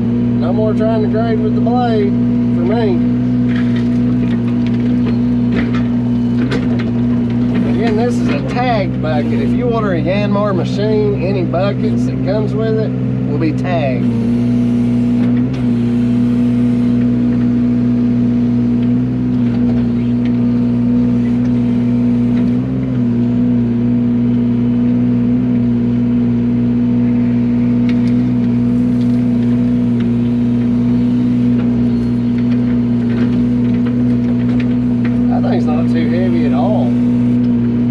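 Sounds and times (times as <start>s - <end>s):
mini excavator diesel engine: 0.0s - 37.9s.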